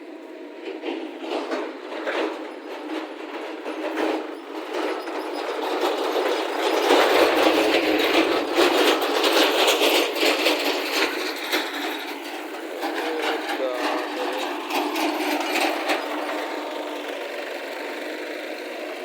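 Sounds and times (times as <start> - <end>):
diesel engine running under load: 0.0 - 19.0
metallic rattle and clatter: 0.5 - 19.0.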